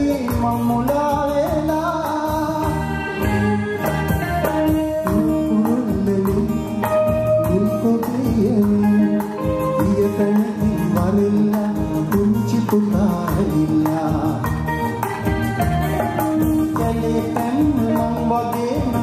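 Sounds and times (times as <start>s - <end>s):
man singing: 0.0s - 15.3s, 16.1s - 19.0s
live band playing: 0.0s - 19.0s
steady drum beat: 0.0s - 19.0s.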